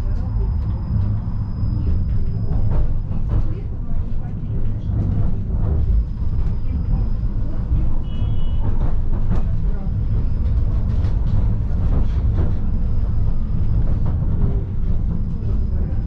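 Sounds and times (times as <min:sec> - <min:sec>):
tram rumbling over rails: 0:00.0 - 0:16.0.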